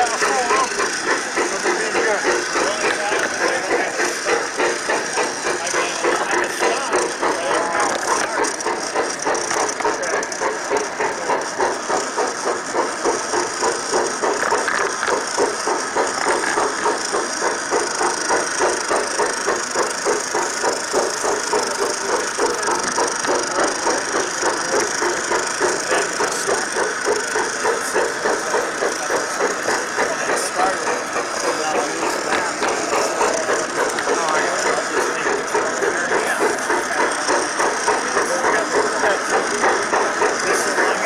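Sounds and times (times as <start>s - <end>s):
model train clattering on track: 0.0s - 41.0s.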